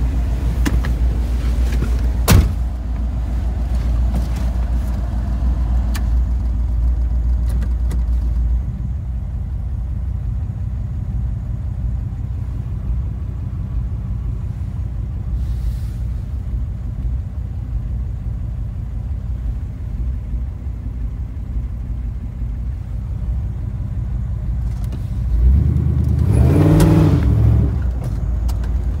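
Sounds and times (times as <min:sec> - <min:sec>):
truck engine idling and revving: 0:00.0 - 0:29.0.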